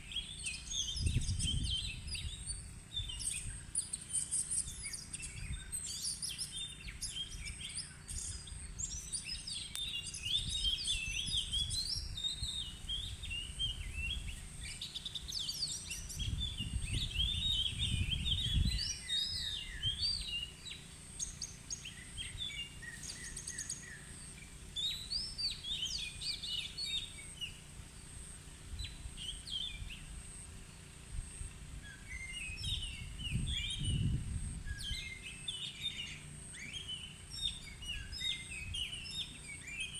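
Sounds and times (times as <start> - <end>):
magpie-robin singing: 0.0 - 28.1, 31.8 - 39.9.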